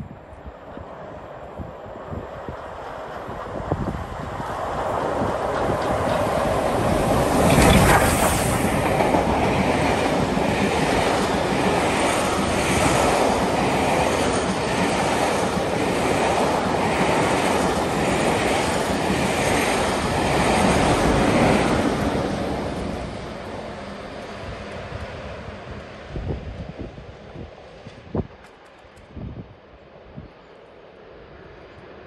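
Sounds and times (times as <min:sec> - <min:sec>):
diesel locomotive passing: 0:00.1 - 0:28.3
steam locomotive rushing by: 0:00.7 - 0:28.3.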